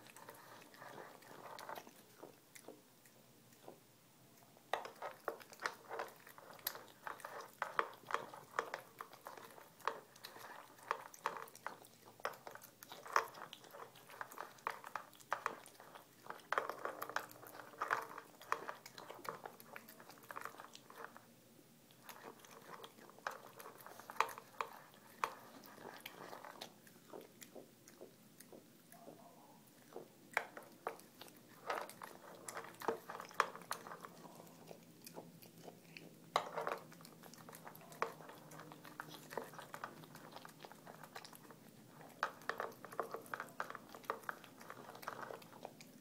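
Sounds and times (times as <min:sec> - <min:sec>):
cat chewing food: 0:00.0 - 0:46.0.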